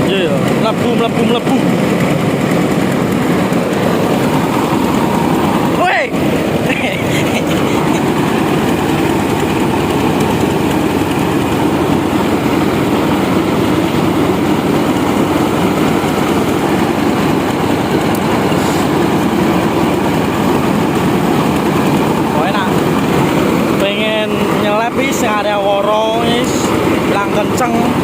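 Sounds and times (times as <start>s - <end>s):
rice mill engine drone: 0.0s - 28.0s.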